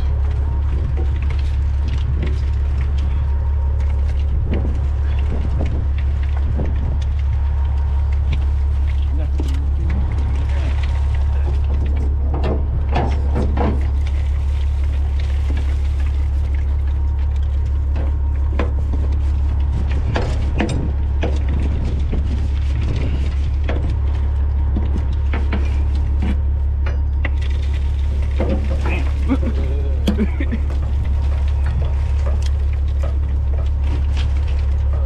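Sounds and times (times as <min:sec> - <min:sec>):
branches cracking and snapping: 0:00.0 - 0:35.0
wood chipper engine drone: 0:00.0 - 0:35.0.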